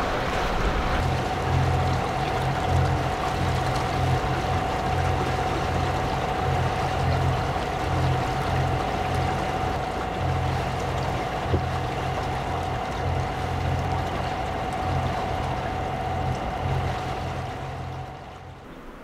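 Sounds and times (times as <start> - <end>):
steady boat tone: 0.0 - 19.0
water rushing along hull: 0.0 - 19.0.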